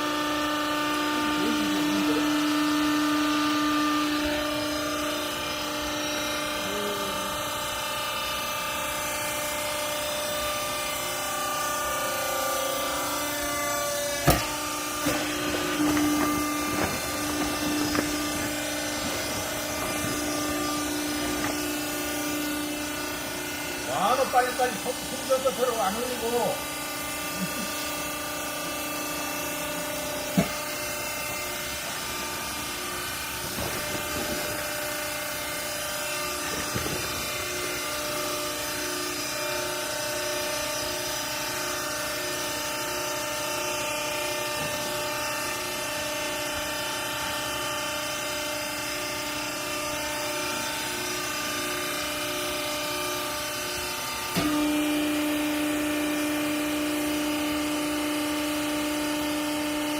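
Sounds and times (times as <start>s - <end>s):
electric motor and pump humming: 0.0s - 59.9s.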